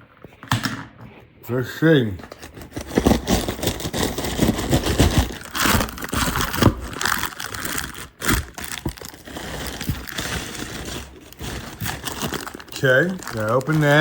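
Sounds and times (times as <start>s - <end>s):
packaging crinkling and rustling: 2.1s - 14.0s.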